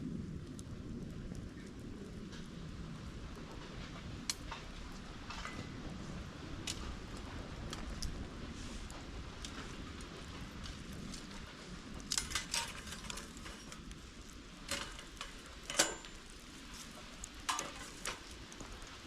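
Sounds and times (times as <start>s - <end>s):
low steady rumble: 0.0s - 19.0s.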